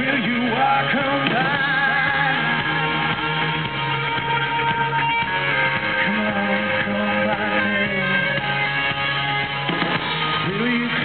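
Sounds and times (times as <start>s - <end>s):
bass line: 0.0s - 11.0s
electric guitar: 0.0s - 11.0s.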